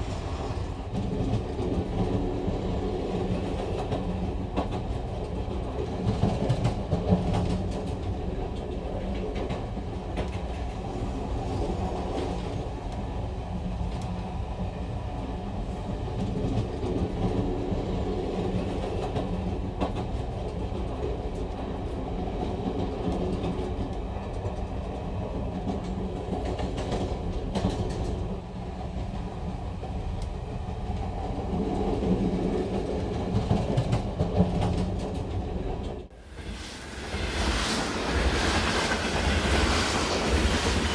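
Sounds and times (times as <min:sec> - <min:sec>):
train rumble: 0:00.0 - 0:40.9.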